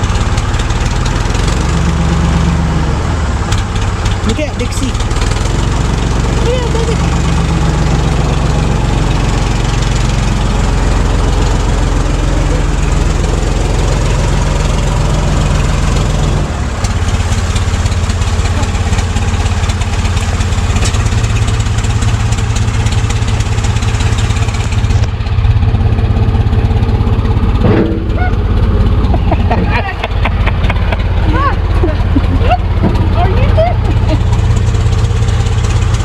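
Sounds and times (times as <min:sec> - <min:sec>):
backhoe engine running: 0:00.0 - 0:36.0.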